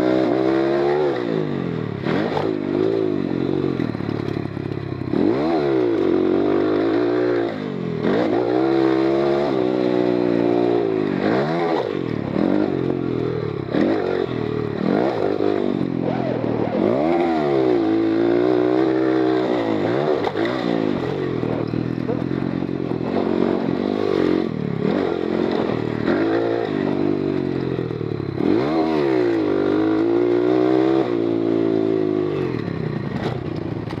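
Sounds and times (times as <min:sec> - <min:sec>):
pit bike engine revving: 0:00.0 - 0:34.0.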